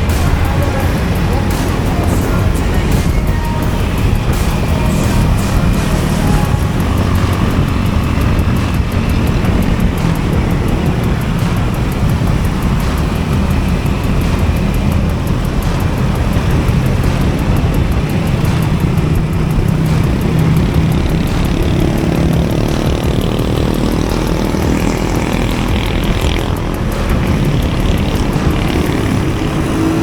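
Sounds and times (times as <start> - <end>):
road and wind noise: 0.0 - 30.0
scooter engine running: 0.0 - 30.0.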